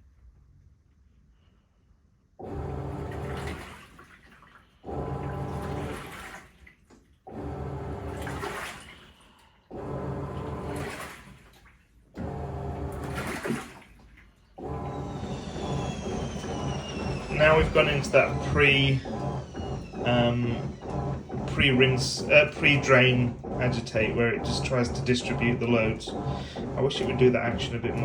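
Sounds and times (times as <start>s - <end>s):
washing machine motor hum: 2.4s - 28.0s
water sloshing: 3.1s - 9.4s, 10.1s - 28.0s.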